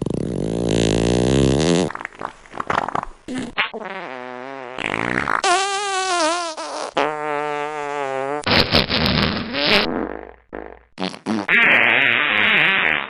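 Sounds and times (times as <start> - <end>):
fart sound effects: 0.0 - 13.0.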